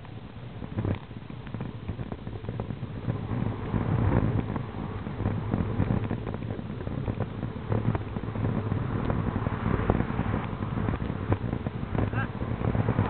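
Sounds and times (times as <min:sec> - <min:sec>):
bicycle tyre and road noise: 0:00.0 - 0:13.0
wind rumble on microphone: 0:00.0 - 0:13.0.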